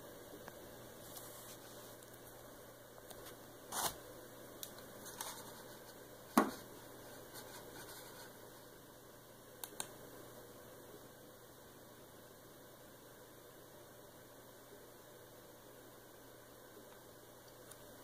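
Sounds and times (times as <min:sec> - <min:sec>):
faint hiss and hum: 0:00.0 - 0:18.0.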